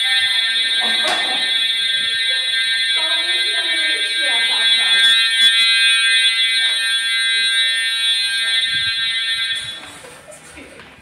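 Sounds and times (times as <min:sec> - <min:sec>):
fire alarm horns steady tone: 0:00.0 - 0:10.5.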